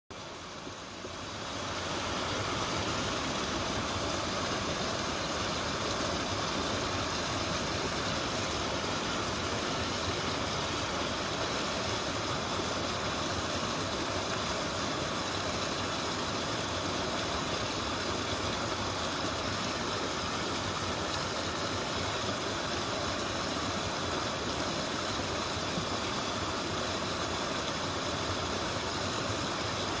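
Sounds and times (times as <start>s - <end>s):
waterfall splashing over rocks: 0.1s - 30.0s.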